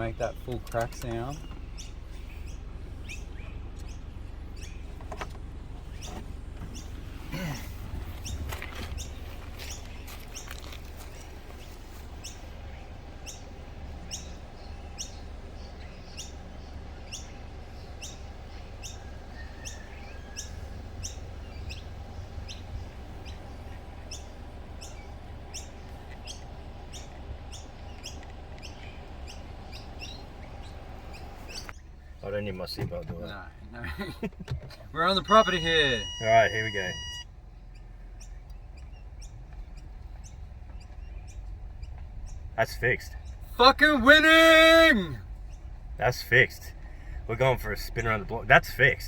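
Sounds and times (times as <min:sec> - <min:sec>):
steady low rumble: 0:00.0 - 0:44.2, 0:44.9 - 0:49.0
small bird chirping: 0:00.2 - 0:05.2, 0:05.8 - 0:32.2, 0:35.1 - 0:43.5, 0:45.4 - 0:45.8.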